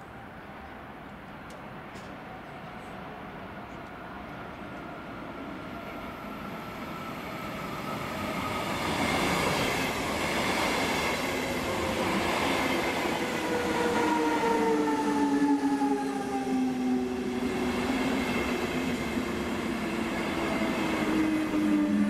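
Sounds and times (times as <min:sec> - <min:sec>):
train wheels rolling on rail: 0:03.7 - 0:22.0.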